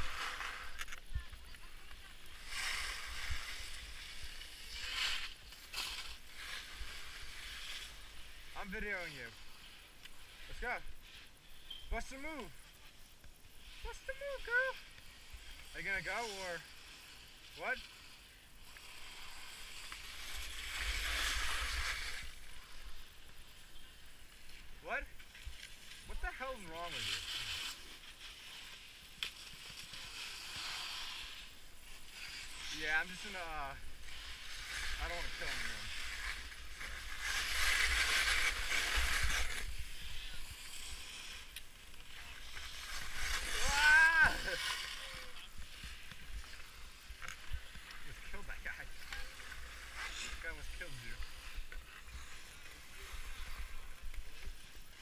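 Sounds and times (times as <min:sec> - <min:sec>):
skis sliding over snow: 0:00.0 - 0:55.0.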